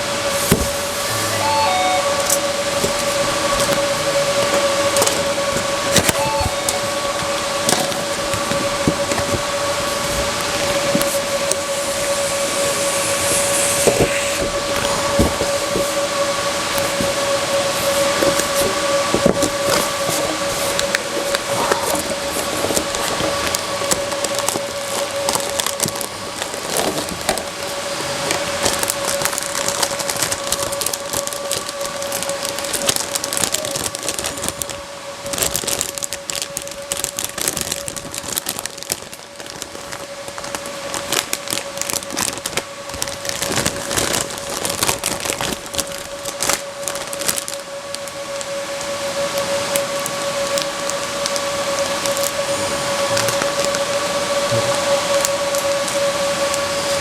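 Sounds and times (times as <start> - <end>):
high-pitched hum: 0.0 - 57.0
packaging crackling and rustling: 2.2 - 57.0.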